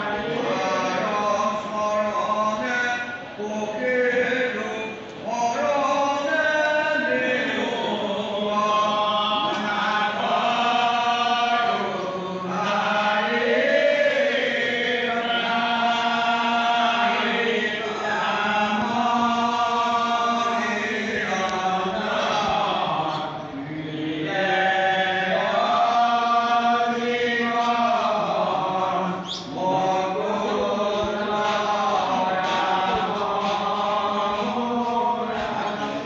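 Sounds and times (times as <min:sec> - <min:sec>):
congregation chanting devotional song: 0:00.0 - 0:36.0.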